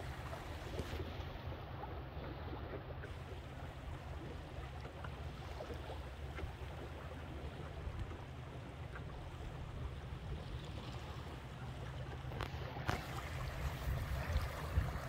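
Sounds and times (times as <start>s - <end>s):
water rushing along hull: 0.0s - 15.0s.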